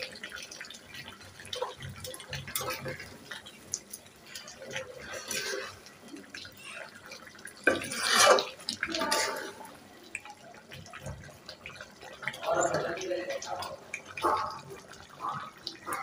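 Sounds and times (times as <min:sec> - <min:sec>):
curry stirred in pot: 0:00.0 - 0:16.0
wet bubbling and dripping: 0:00.0 - 0:16.0.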